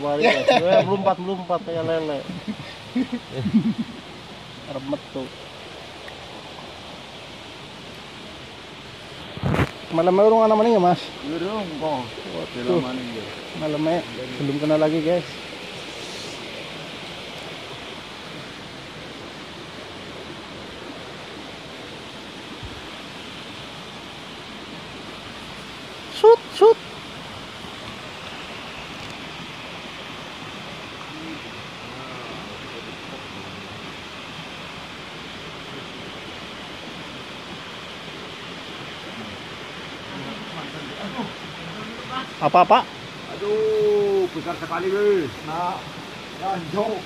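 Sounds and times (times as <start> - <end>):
creek water rushing: 0.0 - 47.0.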